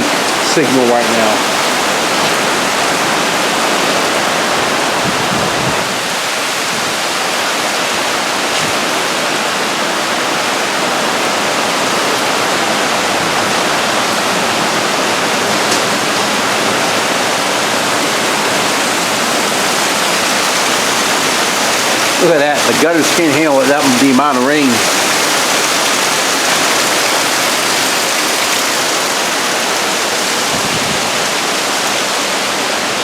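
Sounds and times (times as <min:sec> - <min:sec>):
torrential rain pouring: 0:00.0 - 0:33.0.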